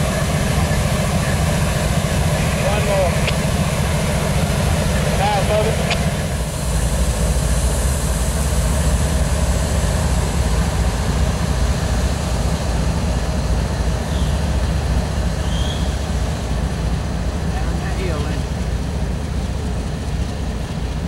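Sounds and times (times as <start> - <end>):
locomotive engines droning: 0.0 - 21.0.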